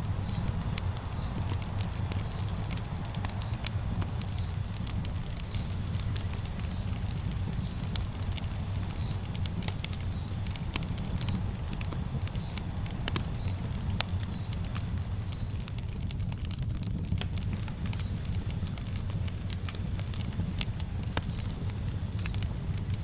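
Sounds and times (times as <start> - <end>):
campfire rumble: 0.0 - 23.0
fire crackles and pops: 0.0 - 23.0.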